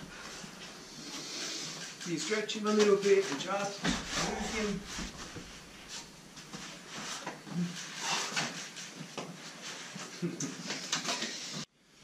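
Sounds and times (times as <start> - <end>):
people rolling on foam mats: 0.0 - 11.7.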